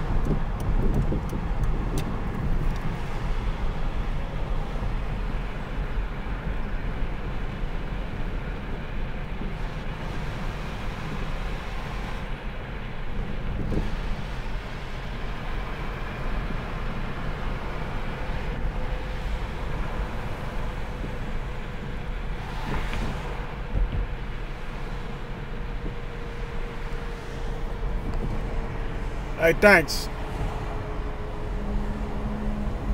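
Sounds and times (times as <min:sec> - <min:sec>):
car engine and tyre noise: 0:00.0 - 0:32.9.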